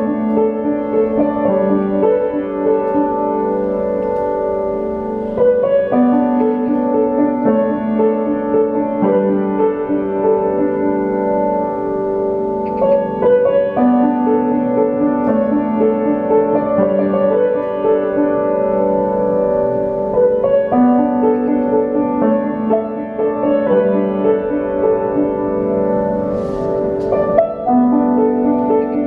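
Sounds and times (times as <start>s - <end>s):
upright piano melody: 0.0s - 29.0s.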